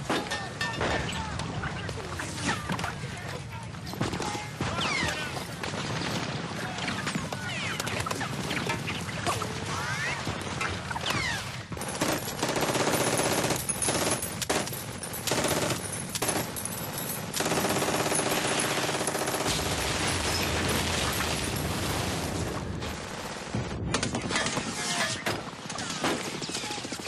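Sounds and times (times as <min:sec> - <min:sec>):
machine-gun and rifle fire: 0:04.0 - 0:27.0.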